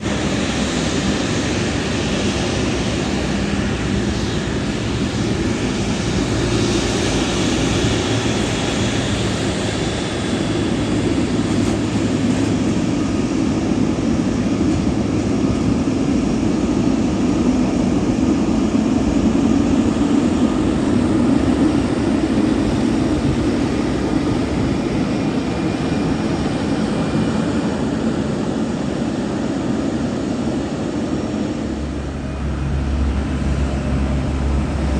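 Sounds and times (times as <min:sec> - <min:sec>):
jet airliner engines roaring: 0:00.0 - 0:34.9.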